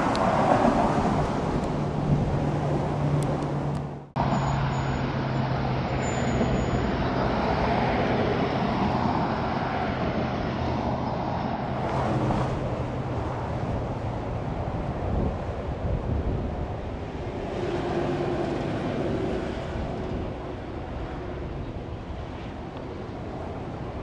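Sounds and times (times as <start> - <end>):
low engine hum: 0.0 - 24.0
road traffic noise: 0.0 - 24.0.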